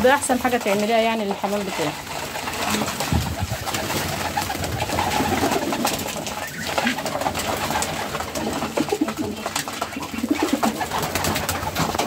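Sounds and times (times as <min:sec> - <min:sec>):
pigeons cooing: 0:00.0 - 0:12.0
wing flaps: 0:00.0 - 0:12.0.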